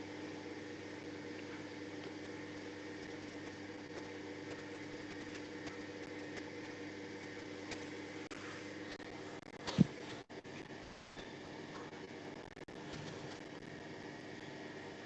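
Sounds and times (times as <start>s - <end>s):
fan or motor hum: 0.0s - 15.0s.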